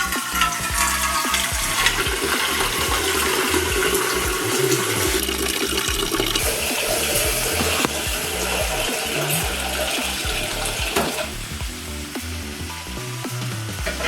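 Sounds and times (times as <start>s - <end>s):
tap water filling a pot: 0.0s - 11.6s.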